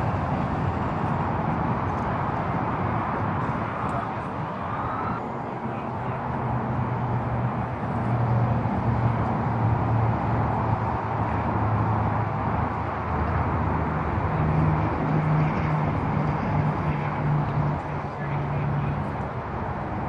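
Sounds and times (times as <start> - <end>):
vehicle engines humming: 0.0 - 20.0.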